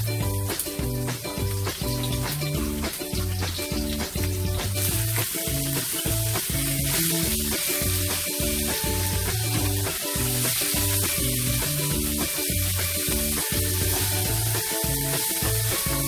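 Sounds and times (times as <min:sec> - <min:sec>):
background music: 0:00.0 - 0:16.0
food sizzling in frying pan: 0:00.0 - 0:16.0.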